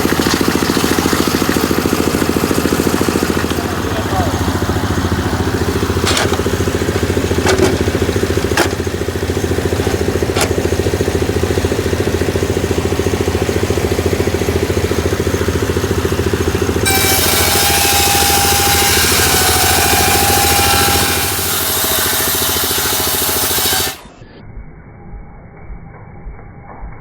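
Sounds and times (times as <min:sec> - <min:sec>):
small engine running: 0:00.0 - 0:24.3.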